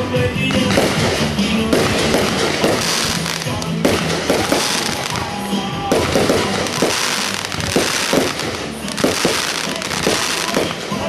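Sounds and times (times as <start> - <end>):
fireworks bangs and crackle: 0.0 - 11.0
music: 0.0 - 11.0.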